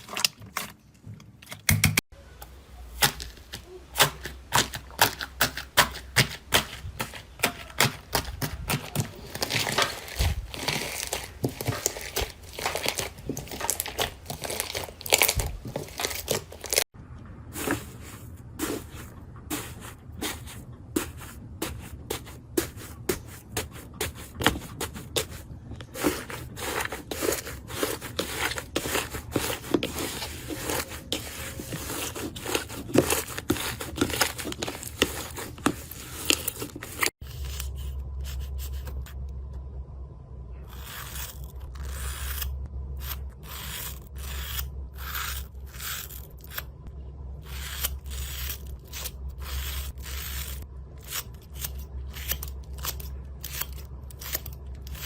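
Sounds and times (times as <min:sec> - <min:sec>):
steady low hum: 0:02.2 - 0:55.0.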